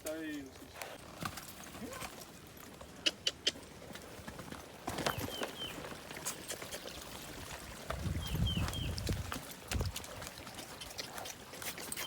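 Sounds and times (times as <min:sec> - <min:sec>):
hooves clopping: 0:00.0 - 0:12.0.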